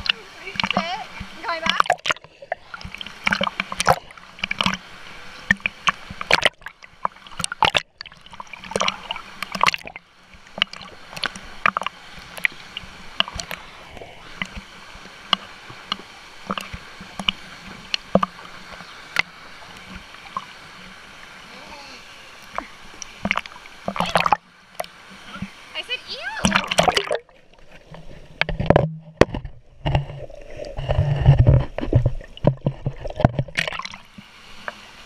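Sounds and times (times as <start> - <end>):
small waterfall rushing: 0.0 - 27.3, 33.5 - 35.0
water slapping and splashing: 0.0 - 35.0.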